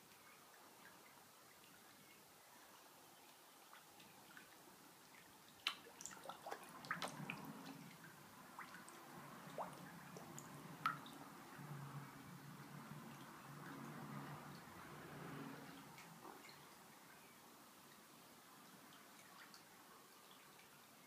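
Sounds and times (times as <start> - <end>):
water drips on pond surface: 0.0 - 14.9, 15.6 - 21.0
faint low hum: 0.0 - 21.0.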